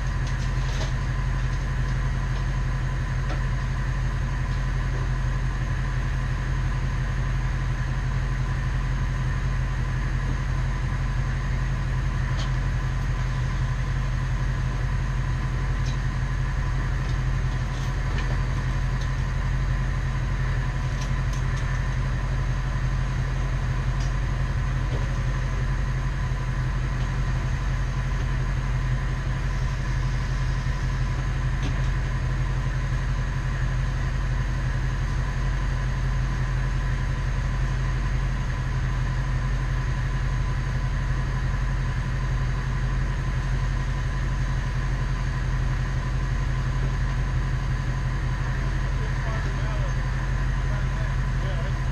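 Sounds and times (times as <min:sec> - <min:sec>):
truck engine running: 0:00.0 - 0:51.9.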